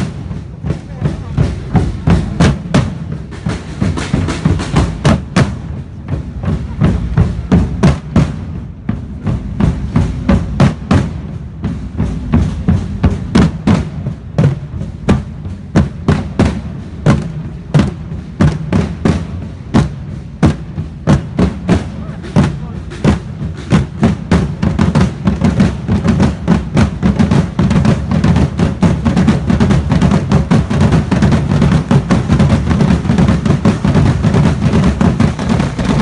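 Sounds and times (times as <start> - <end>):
marching drums: 0.0 - 36.0.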